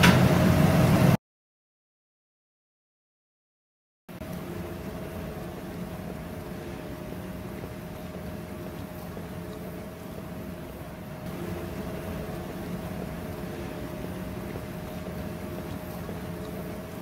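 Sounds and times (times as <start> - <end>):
low machine roar with hum: 0.0 - 1.2, 4.1 - 17.0.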